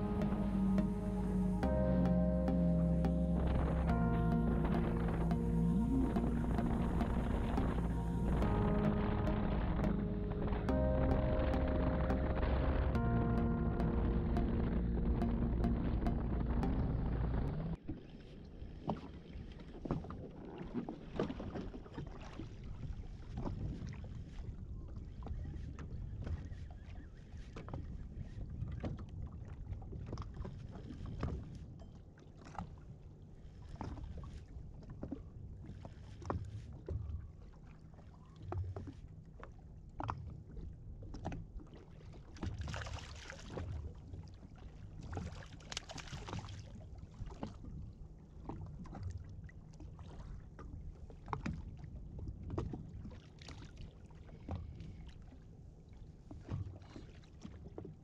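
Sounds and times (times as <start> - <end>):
wind and water rumble: 0.0 - 58.0.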